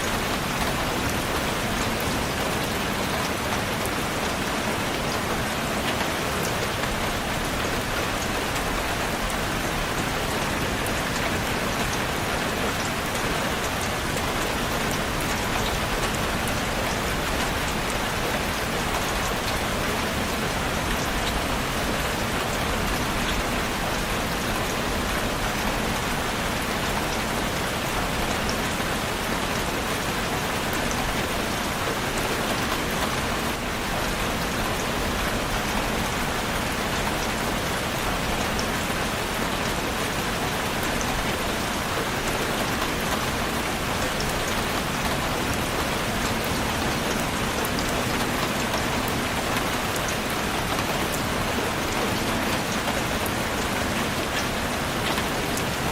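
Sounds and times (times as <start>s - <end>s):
rain pattering: 0.0s - 55.9s.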